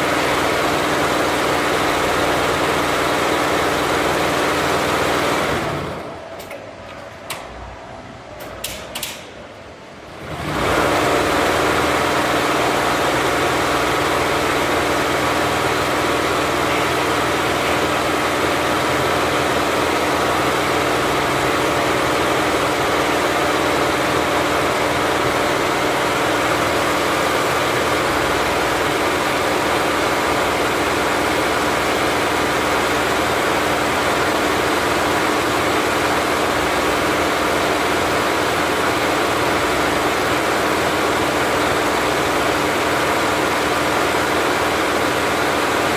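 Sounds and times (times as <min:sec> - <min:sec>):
embroidery machine running: 0:00.0 - 0:06.2, 0:10.2 - 0:45.9.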